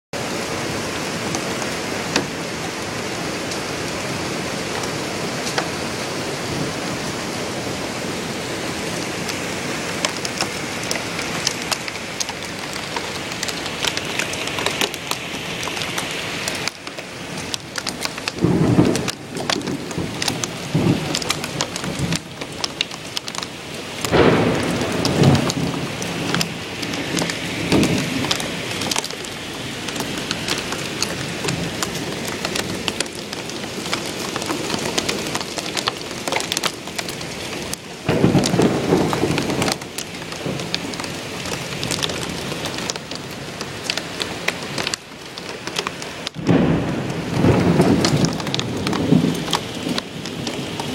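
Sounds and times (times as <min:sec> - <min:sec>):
heavy rain pouring: 0:00.1 - 0:50.9
thunder rumbling: 0:00.3 - 0:50.9.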